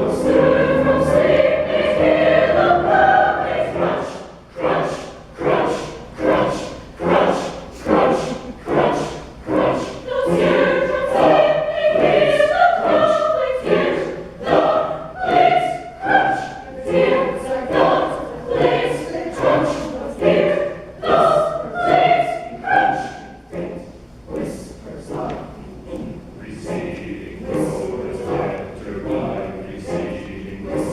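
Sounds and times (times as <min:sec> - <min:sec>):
choir singing: 0:00.0 - 0:30.9.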